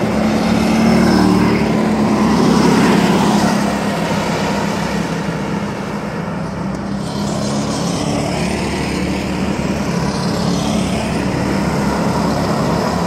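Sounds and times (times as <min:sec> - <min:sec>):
go-kart engines at high revs: 0:00.0 - 0:13.0.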